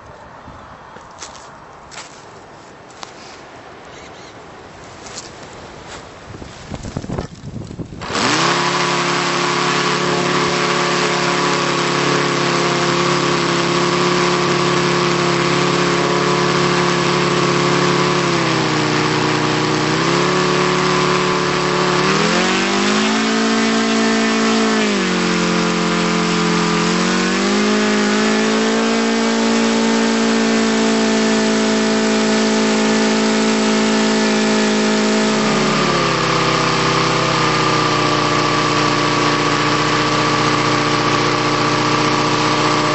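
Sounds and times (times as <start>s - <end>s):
model aircraft engine running: 6.8s - 42.9s.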